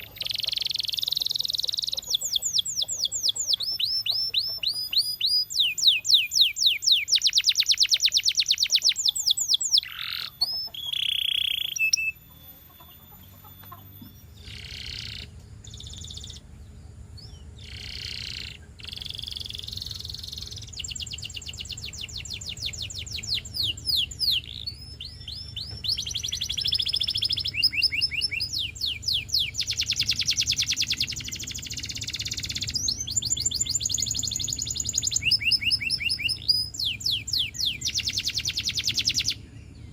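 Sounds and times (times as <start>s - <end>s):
canary singing trills: 0.0s - 39.9s
low steady hum: 0.0s - 39.9s.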